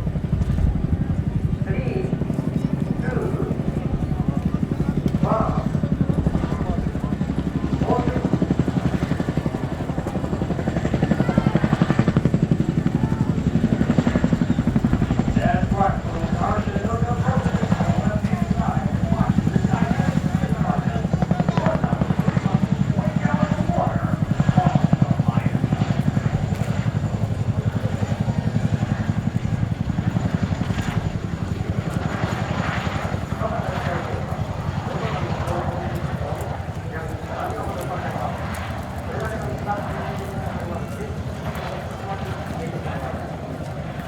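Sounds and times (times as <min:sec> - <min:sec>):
helicopter rotors chopping: 0:00.0 - 0:44.0.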